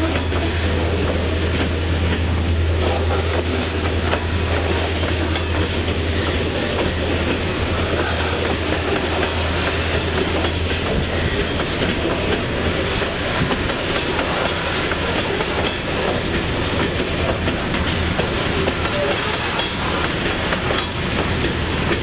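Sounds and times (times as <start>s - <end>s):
clickety-clack over rail joints: 0.0s - 22.0s
train wheels rumbling on rails: 0.0s - 22.0s.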